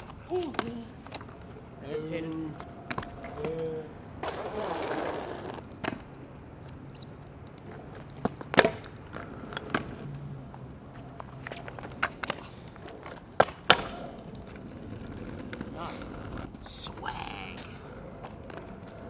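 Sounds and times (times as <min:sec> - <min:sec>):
scooter wheels rolling on asphalt: 0:00.0 - 0:16.8, 0:17.4 - 0:19.0.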